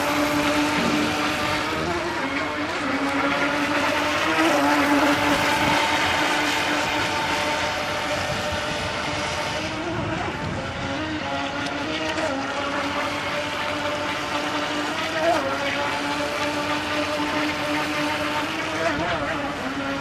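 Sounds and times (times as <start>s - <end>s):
model speedboat motor buzzing: 0.0s - 20.0s.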